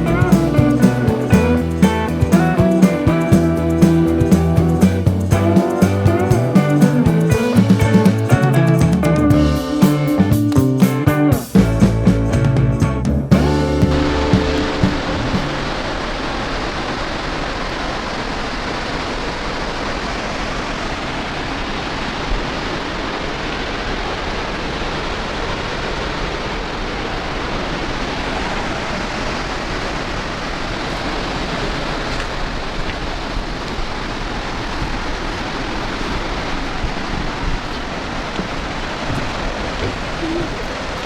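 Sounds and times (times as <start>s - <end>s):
waterfall running: 0.0s - 41.0s.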